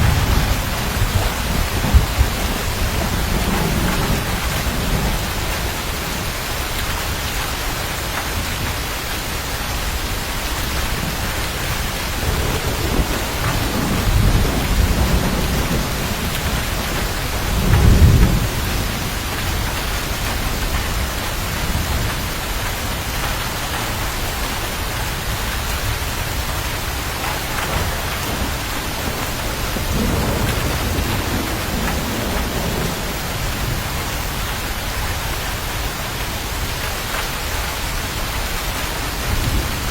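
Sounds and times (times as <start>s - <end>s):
rolling thunder: 0.0s - 8.9s, 10.2s - 24.1s, 25.8s - 36.3s, 38.2s - 39.9s
heavy rain: 0.0s - 39.9s.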